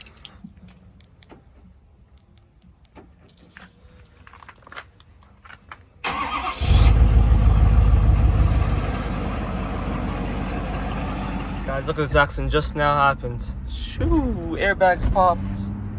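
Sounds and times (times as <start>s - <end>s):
vehicle engine rumble: 0.0s - 15.9s
road noise: 2.7s - 15.9s.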